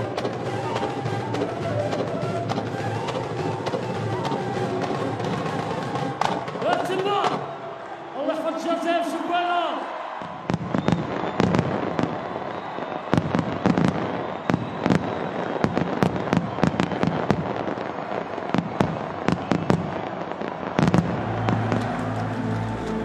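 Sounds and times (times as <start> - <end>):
fireworks bangs: 0.0 - 8.2, 10.0 - 23.0
fireworks crackling: 0.0 - 8.2, 10.2 - 23.0.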